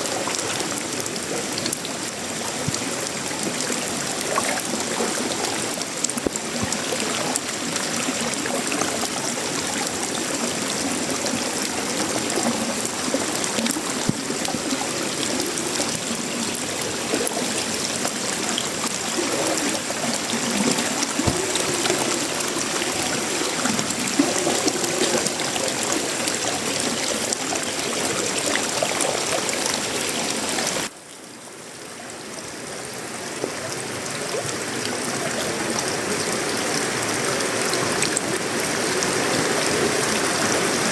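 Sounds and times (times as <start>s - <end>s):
rain on a metal roof and leaves: 0.0s - 40.9s.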